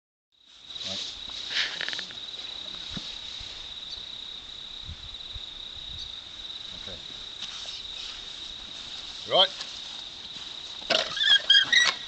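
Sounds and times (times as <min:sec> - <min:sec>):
crickets trilling: 0:00.4 - 0:12.0.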